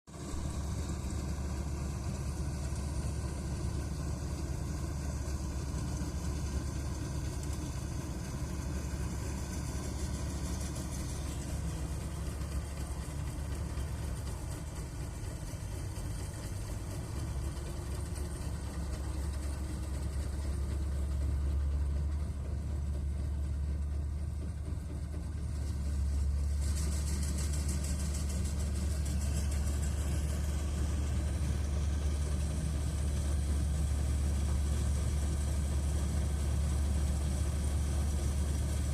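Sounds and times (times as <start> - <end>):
hiss: 0.6 - 19.2, 25.8 - 38.9.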